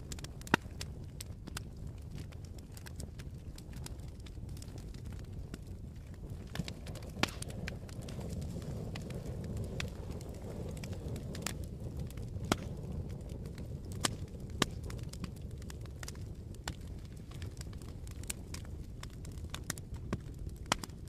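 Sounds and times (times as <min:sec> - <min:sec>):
fire crackles and pops: 0:00.0 - 0:21.0
fire flames rushing: 0:00.0 - 0:21.0.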